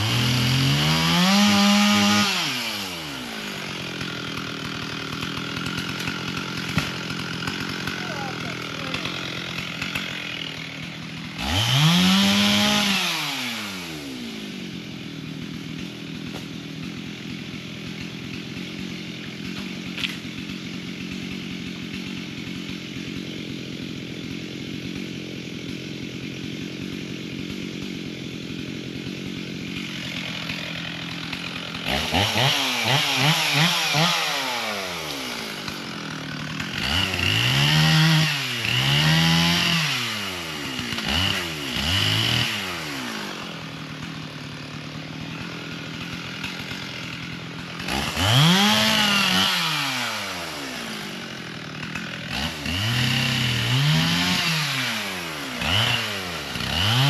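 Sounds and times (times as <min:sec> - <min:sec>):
chainsaw idling and revving: 0:00.0 - 0:57.0.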